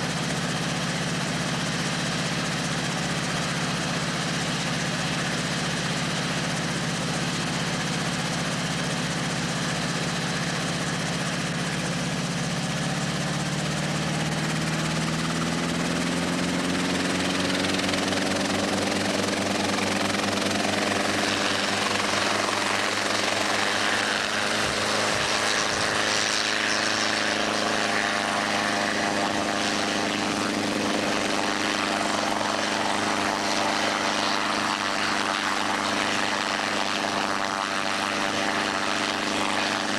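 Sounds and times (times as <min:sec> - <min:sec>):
helicopter engine running up: 0:00.0 - 0:39.9.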